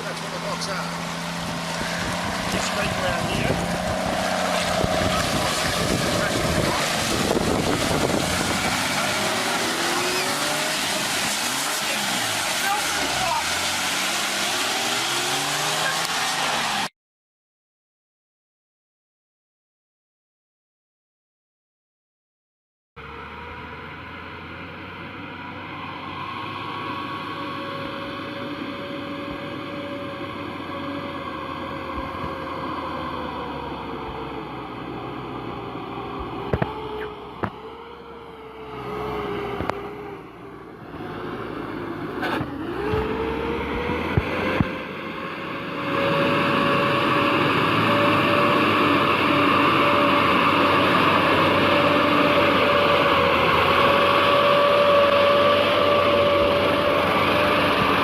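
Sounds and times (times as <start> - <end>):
vehicle engine whining: 0.0 - 16.9, 23.0 - 58.0.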